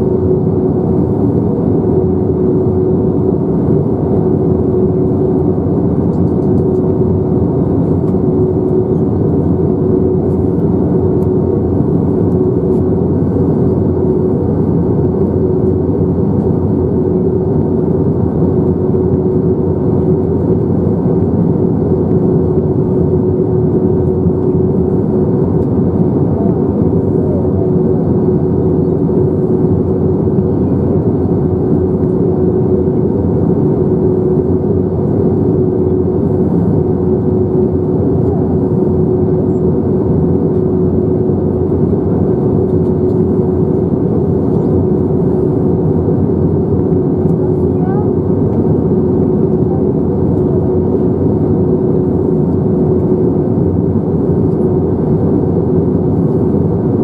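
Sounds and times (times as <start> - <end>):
jet engines droning: 0.0 - 57.0
steady hum: 0.0 - 57.0.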